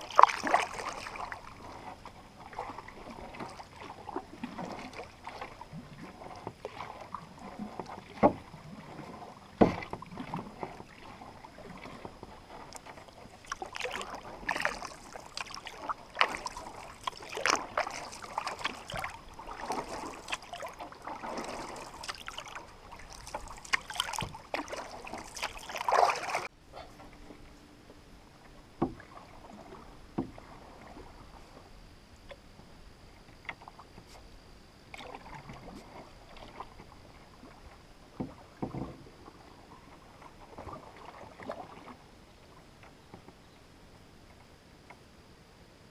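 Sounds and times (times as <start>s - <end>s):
paddle splashing water: 0.0s - 27.5s, 28.4s - 44.5s.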